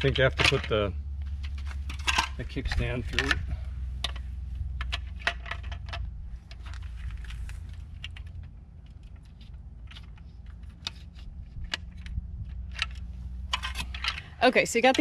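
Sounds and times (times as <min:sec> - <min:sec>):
plastic parts clicking and knocking: 0:00.0 - 0:15.0
steady low rumble: 0:00.0 - 0:15.0.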